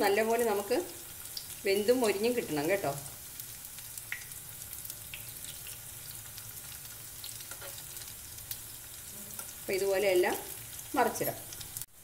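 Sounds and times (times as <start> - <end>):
cauliflower sizzling in oil: 0.0 - 12.0.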